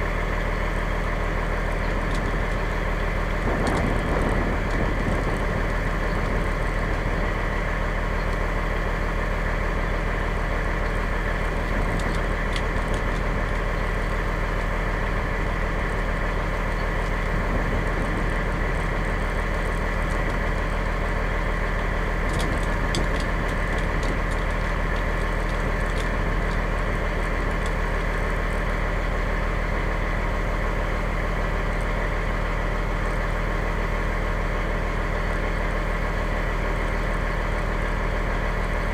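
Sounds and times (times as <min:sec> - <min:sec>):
fire engine motor running: 0:00.0 - 0:38.9.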